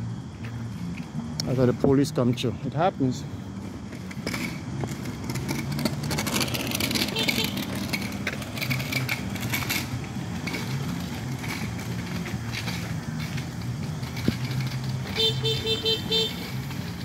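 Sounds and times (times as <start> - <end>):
road traffic noise: 0.0 - 17.0
vehicle engine running nearby: 0.0 - 17.0.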